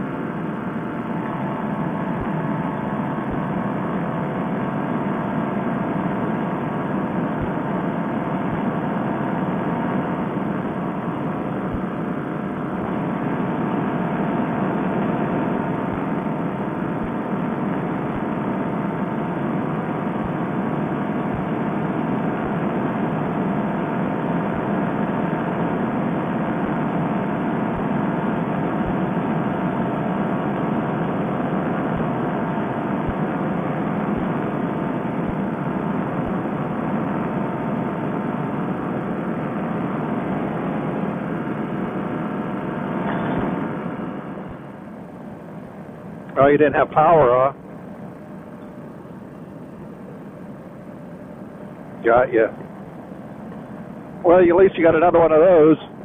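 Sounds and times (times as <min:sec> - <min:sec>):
paramotor engine droning: 0:00.0 - 0:46.4.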